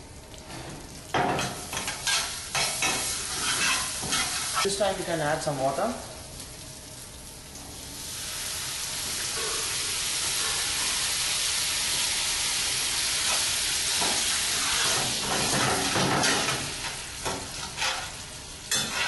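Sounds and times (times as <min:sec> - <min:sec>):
hot oil sizzling hiss: 0:00.0 - 0:05.8, 0:07.6 - 0:19.0.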